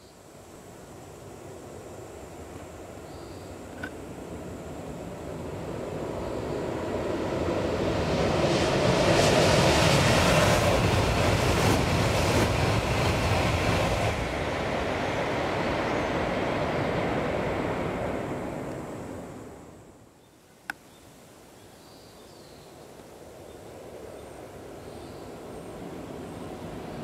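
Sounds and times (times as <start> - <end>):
high-speed train rushing roar: 0.5 - 20.0, 23.2 - 27.0.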